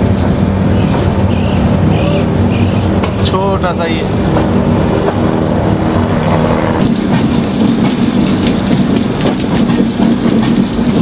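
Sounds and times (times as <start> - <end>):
rushing wind noise: 0.0 - 11.0
train coaches rumbling on track: 0.0 - 11.0.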